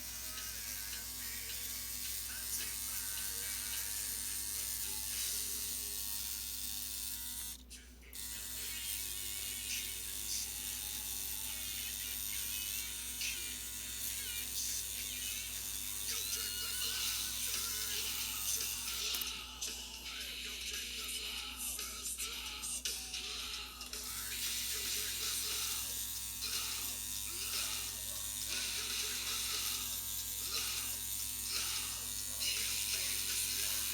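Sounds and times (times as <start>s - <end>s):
electric tattoo machine buzzing: 0.0s - 21.6s, 22.3s - 33.9s.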